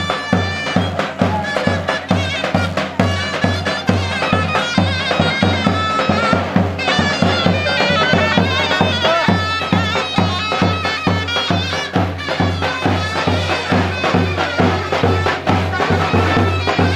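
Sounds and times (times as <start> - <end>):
shrill reed melody: 0.0 - 16.9
steady drum beat: 0.0 - 16.9.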